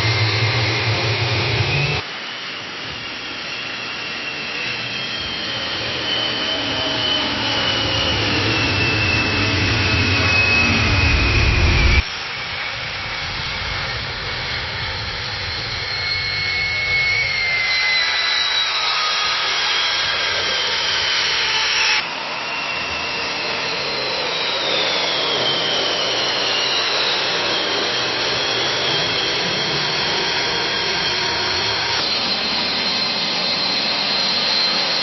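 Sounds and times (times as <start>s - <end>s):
high whine falling in pitch: 0.0s - 35.0s
jet plane taking off: 0.0s - 35.0s.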